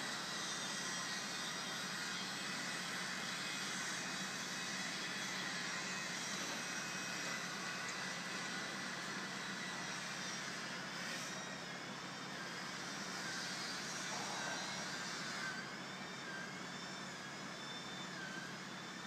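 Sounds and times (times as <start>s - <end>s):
constant mechanical drone: 0.0s - 19.0s.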